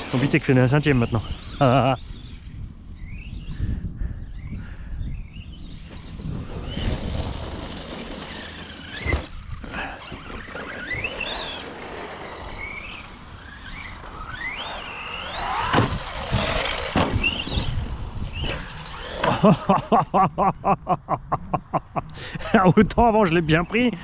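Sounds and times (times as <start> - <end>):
tyres on dirt: 0.0 - 3.5, 5.2 - 24.0
electric motor whining: 0.0 - 19.5.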